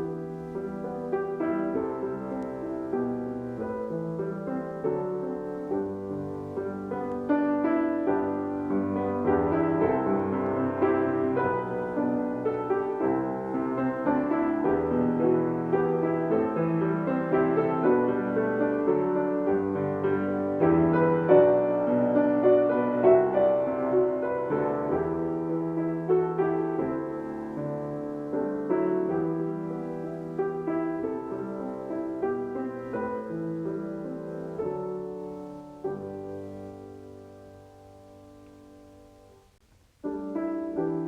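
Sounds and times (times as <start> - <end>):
solo piano playing hymn tune: 0.0 - 41.0.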